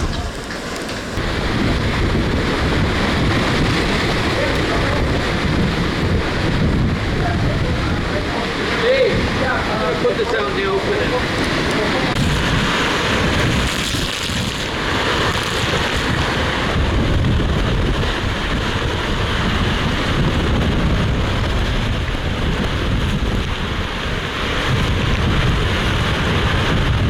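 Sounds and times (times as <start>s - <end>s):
wind blasting microphone: 0.0s - 27.0s.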